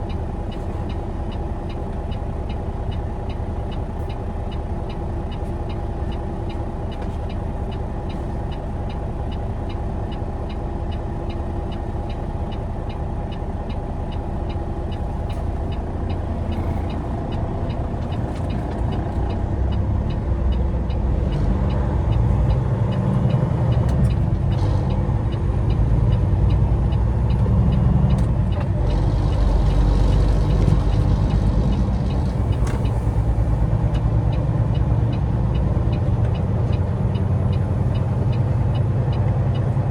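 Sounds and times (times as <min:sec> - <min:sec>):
faint regular ticking: 0:00.0 - 0:39.7
road noise: 0:00.0 - 0:39.9
truck diesel engine: 0:00.0 - 0:39.9.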